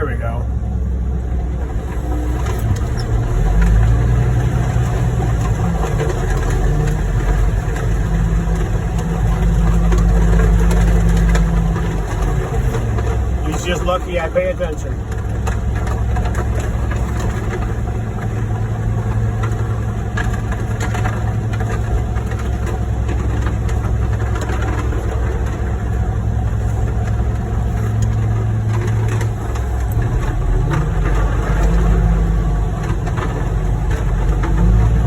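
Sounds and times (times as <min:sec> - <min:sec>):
diesel truck engines running: 0:00.0 - 0:35.0.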